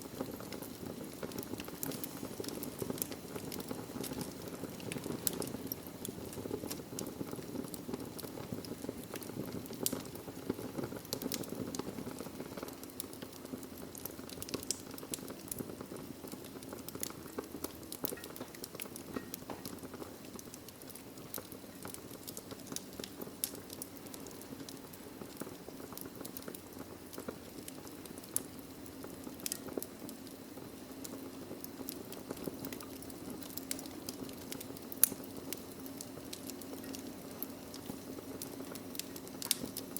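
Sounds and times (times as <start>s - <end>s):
logs crackling and popping: 0.0s - 39.9s
low rush of flame: 0.0s - 39.9s.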